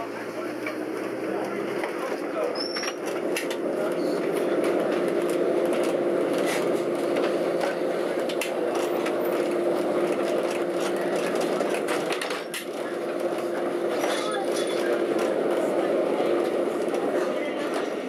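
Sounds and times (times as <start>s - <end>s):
tram hum: 0.0s - 18.0s.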